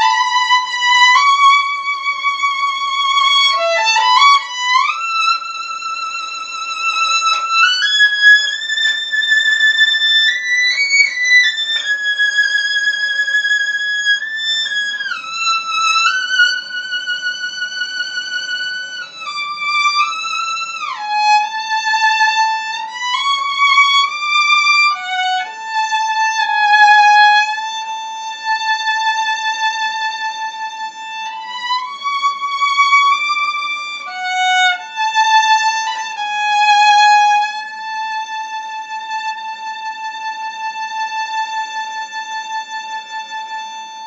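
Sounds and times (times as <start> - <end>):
solo violin melody: 0.0 - 44.0.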